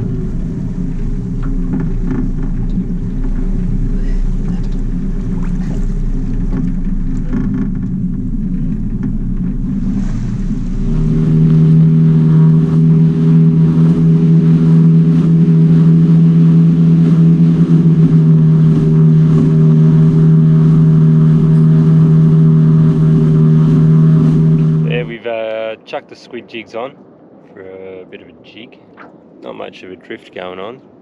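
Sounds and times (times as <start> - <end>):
outboard motor running: 0.0 - 25.2.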